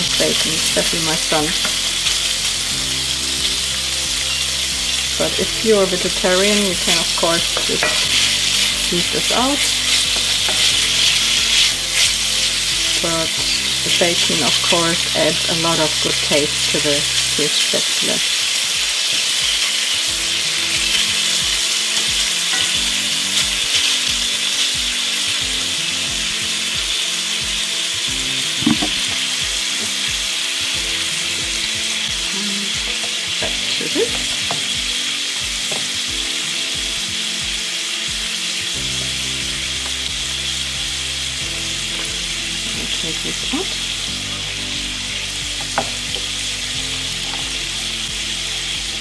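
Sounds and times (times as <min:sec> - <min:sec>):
bacon sizzling in a frying pan: 0:00.0 - 0:49.0.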